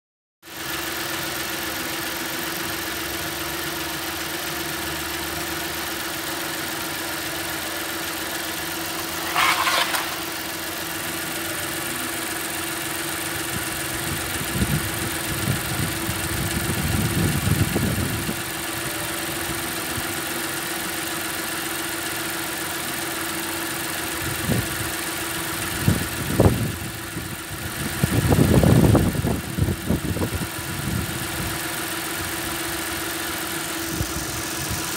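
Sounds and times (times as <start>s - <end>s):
car engine idling: 0.5s - 34.9s.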